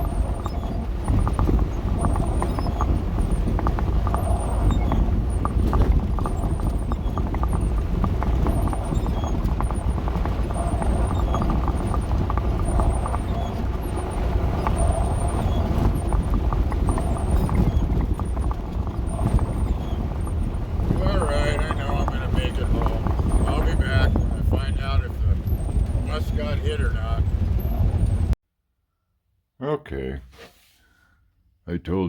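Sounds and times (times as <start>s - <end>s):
rattling and clunking: 0.0s - 28.4s
van driving over rough ground: 0.0s - 28.4s.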